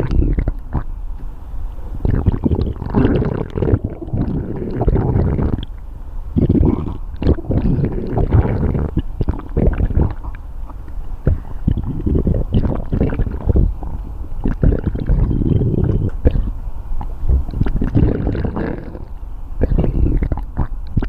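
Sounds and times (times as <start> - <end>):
stomach growling and gurgling: 0.0 - 0.9, 2.0 - 5.8, 6.4 - 21.0.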